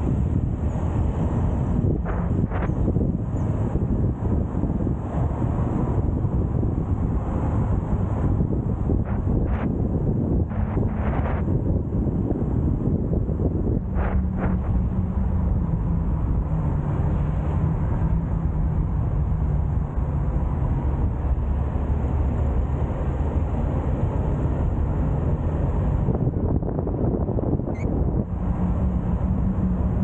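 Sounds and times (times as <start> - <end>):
car engine and tyre rumble: 0.0 - 30.0
wind noise on microphone: 0.0 - 30.0.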